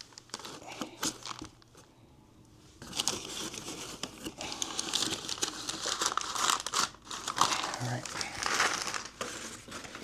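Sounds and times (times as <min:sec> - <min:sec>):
packaging crinkling and rustling: 0:00.0 - 0:01.9, 0:02.8 - 0:10.0.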